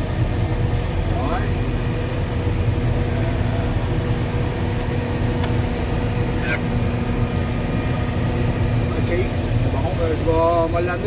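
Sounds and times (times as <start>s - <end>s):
snow blower running: 0.0s - 11.0s
wheel loader engine rumbling: 0.0s - 11.0s.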